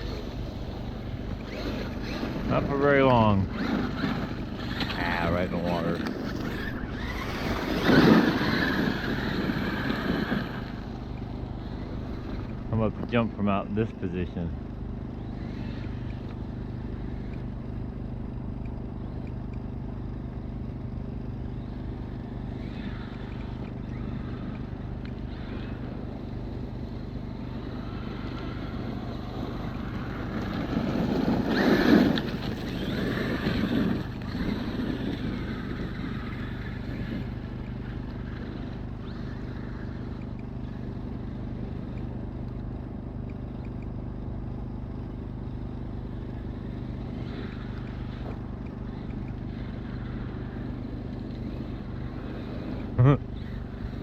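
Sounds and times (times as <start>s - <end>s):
rc truck electric motor: 0.0s - 13.1s, 14.2s - 44.0s, 44.7s - 54.0s
steady low hum: 0.0s - 54.0s.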